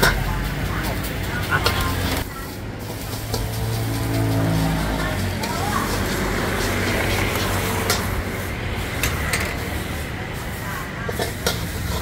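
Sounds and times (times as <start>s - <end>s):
food sizzling: 0.0s - 12.0s
gas burners hissing: 0.0s - 12.0s
metal ladle scraping a wok: 0.0s - 12.0s.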